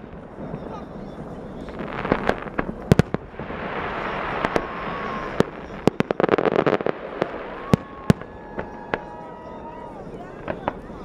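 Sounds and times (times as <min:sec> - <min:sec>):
rapid firework crackles: 0:00.0 - 0:11.0.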